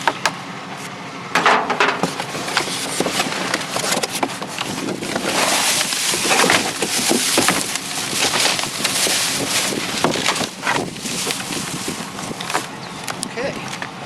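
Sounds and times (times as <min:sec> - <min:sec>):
trash rustling: 0:01.3 - 0:14.0
objects clicking and clattering: 0:01.4 - 0:13.9.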